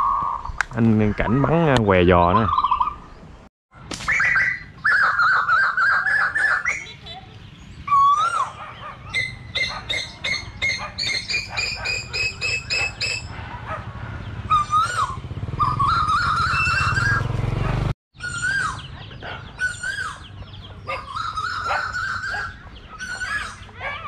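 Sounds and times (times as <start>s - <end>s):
birds whistling calls: 0.0s - 3.4s, 4.0s - 17.4s, 18.2s - 24.0s
birds chattering: 0.2s - 3.5s, 4.1s - 24.0s.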